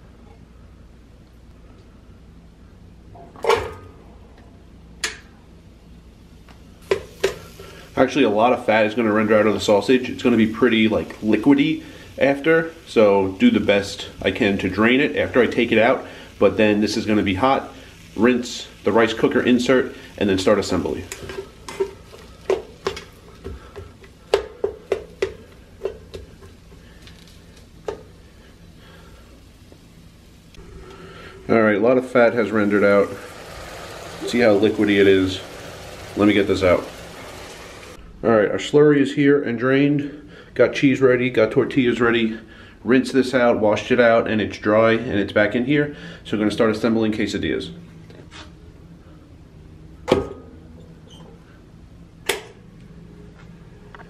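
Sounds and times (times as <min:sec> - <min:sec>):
low steady hum: 0:00.0 - 0:45.2.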